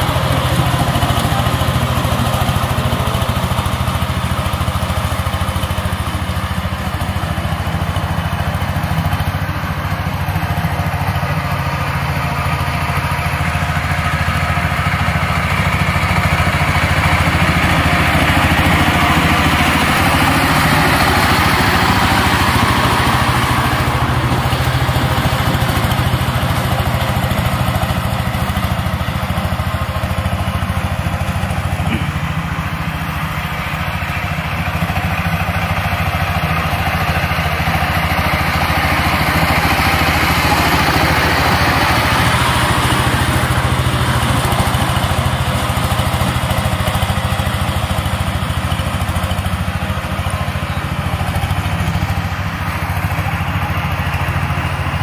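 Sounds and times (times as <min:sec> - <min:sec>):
tiller diesel engine running: 0:00.0 - 0:55.0.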